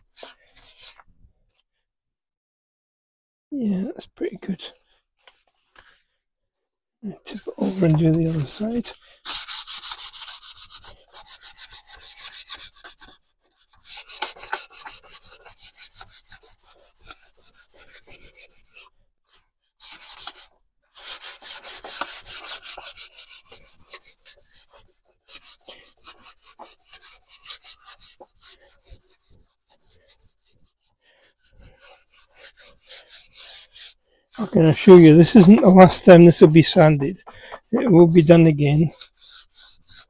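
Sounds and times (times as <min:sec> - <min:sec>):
sandpaper rubbing on wood: 0:00.1 - 0:01.0, 0:07.6 - 0:18.9, 0:19.8 - 0:40.0.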